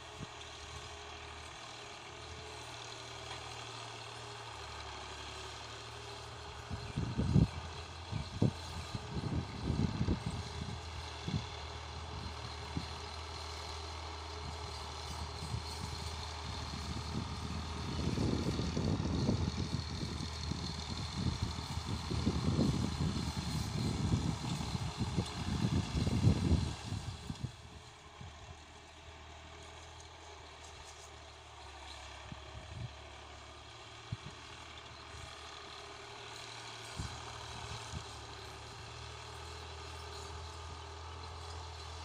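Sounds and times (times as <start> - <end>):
distant tractor diesel engine: 0.0 - 42.0.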